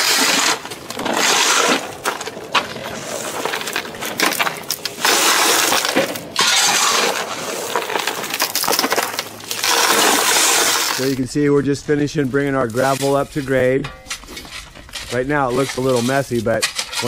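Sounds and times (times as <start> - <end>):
gravel clattering from shovel: 0.0 - 17.0.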